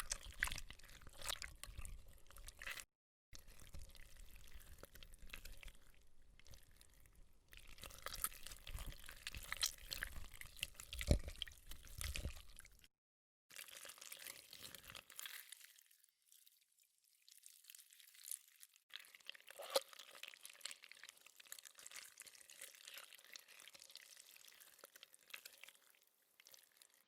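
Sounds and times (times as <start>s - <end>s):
slime squelching: 0.0s - 12.9s, 17.4s - 27.0s.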